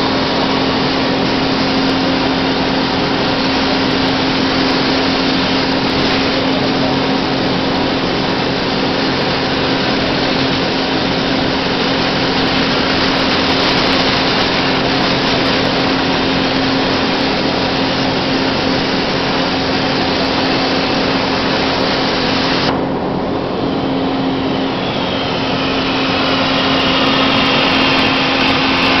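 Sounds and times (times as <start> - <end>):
low machine hum: 0.0 - 29.0
plasma cutter hissing: 0.0 - 29.0.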